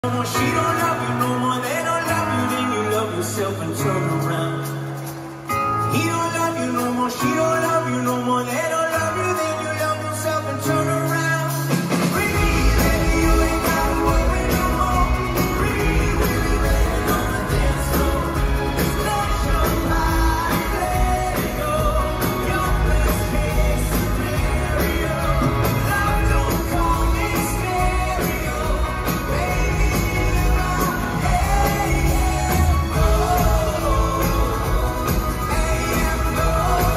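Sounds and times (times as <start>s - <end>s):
live rock band: 0.0s - 36.9s
man singing lead vocals: 0.0s - 36.9s.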